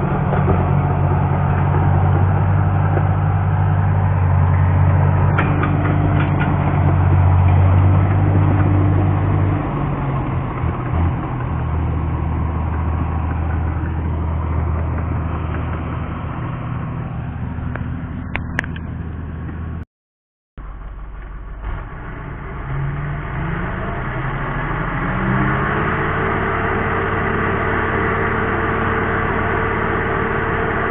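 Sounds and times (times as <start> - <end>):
bulldozer diesel engine running: 0.0 - 19.8, 20.6 - 30.9.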